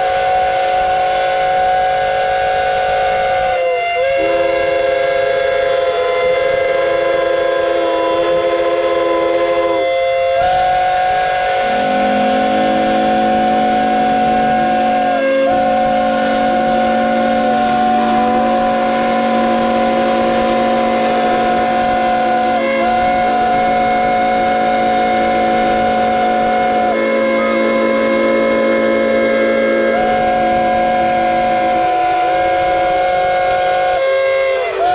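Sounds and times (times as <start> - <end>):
steam whistles blowing a chord: 0.0 - 34.9.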